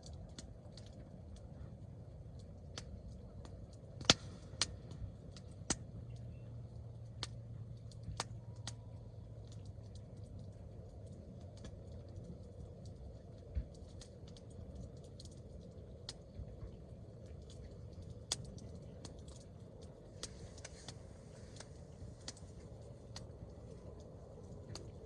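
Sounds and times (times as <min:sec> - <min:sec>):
campfire crackling and popping: 0:00.0 - 0:25.0
low steady rumble: 0:00.0 - 0:25.0.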